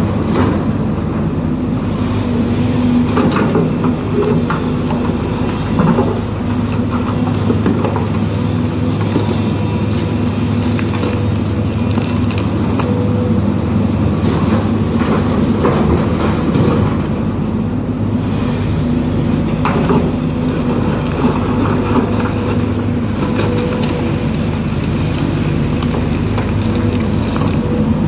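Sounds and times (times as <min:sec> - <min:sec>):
excavator clanks and rattles: 0:00.0 - 0:28.0
excavator diesel engine running: 0:00.0 - 0:28.0.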